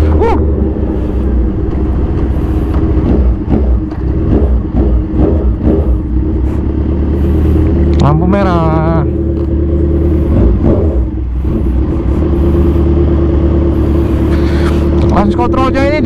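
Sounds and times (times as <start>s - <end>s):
loud motorcycle engine: 0.0s - 16.0s.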